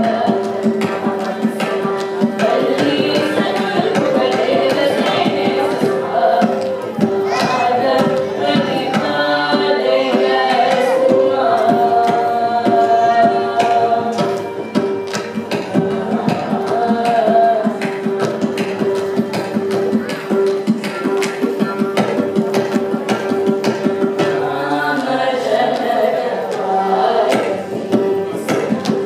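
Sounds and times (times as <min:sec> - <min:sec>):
people singing: 0:00.0 - 0:29.0.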